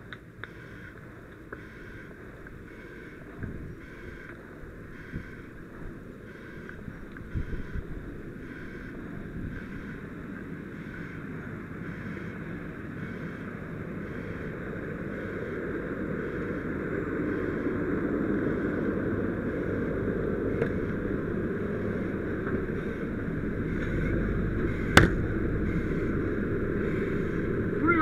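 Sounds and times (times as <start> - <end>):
fire engine rumbling: 0.0 - 28.0.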